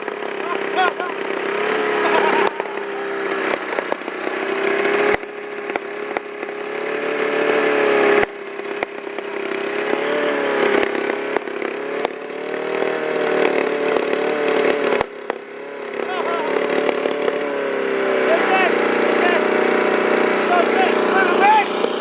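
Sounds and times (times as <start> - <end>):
lawn mower engine at high revs: 0.0 - 22.0
sharp cracks: 0.0 - 22.0.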